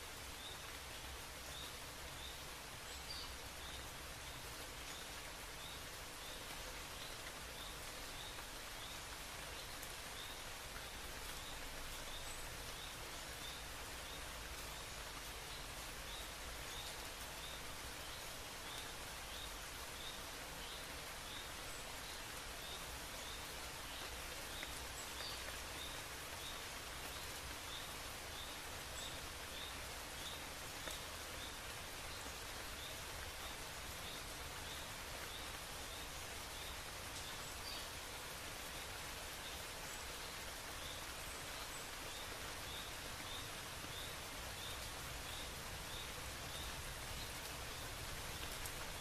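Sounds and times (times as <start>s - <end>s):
outdoor ambient hiss: 0.0s - 49.0s.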